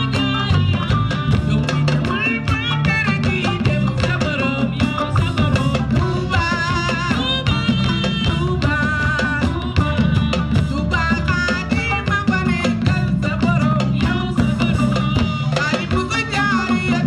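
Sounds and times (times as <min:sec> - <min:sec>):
drum and percussion beat: 0:00.0 - 0:17.0
live band playing: 0:00.0 - 0:17.0
woman singing: 0:00.0 - 0:17.0.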